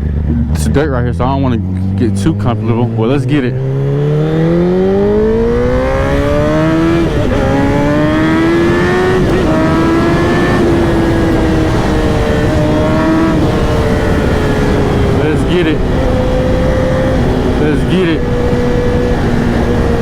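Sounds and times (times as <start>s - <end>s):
motorcycle engine accelerating hard: 0.0s - 20.0s
wind rushing over microphone: 0.0s - 20.0s.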